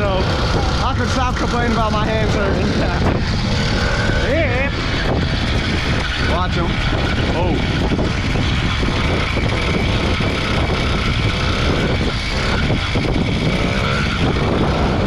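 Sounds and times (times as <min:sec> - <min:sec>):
two-stroke engine running: 0:00.0 - 0:15.0
wind rushing over microphone: 0:00.0 - 0:15.0.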